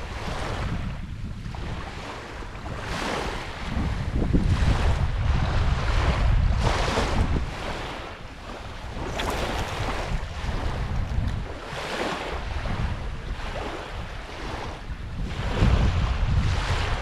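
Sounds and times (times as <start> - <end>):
small waves lapping on beach: 0.0 - 17.0
wind buffeting microphone: 0.0 - 17.0.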